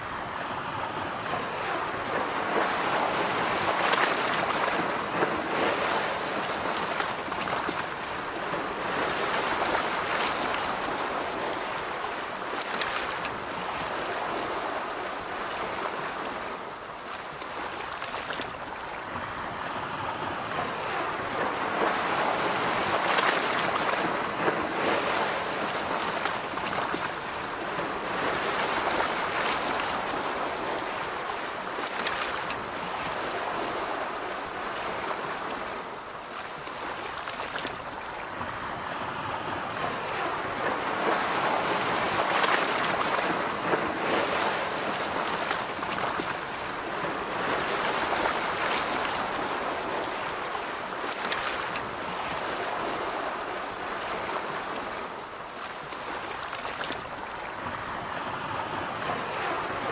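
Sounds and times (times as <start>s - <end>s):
ocean surf washing on beach: 0.0s - 59.9s.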